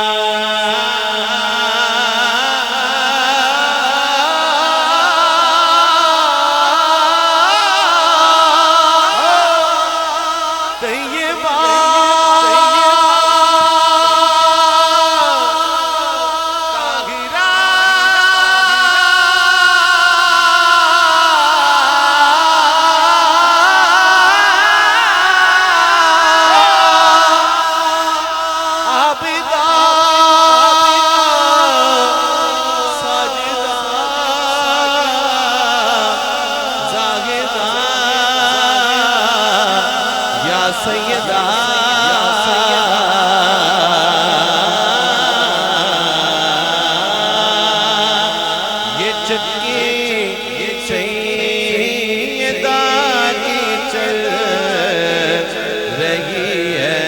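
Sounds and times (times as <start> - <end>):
man singing unaccompanied: 0.0 - 57.0.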